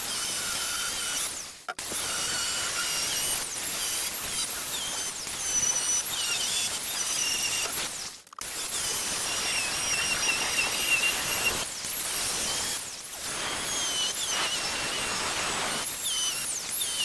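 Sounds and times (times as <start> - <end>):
power tool whining cutting stone: 0.0 - 17.0.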